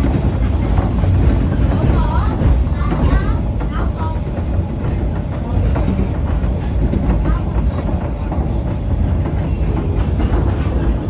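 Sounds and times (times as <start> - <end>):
rumble of wheels on track: 0.0 - 11.0.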